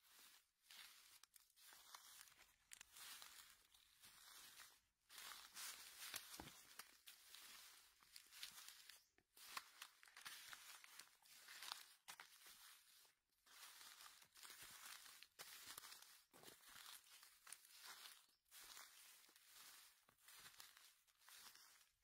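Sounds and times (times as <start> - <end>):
footsteps crunching dry leaves: 0.0 - 22.0.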